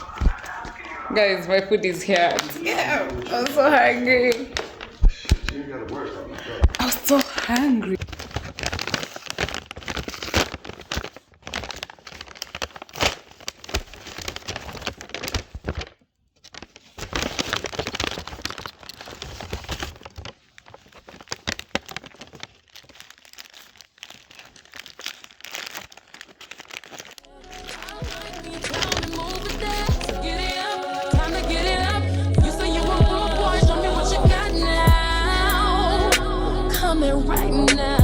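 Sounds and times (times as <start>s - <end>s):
food packaging crinkling: 0.0s - 36.2s.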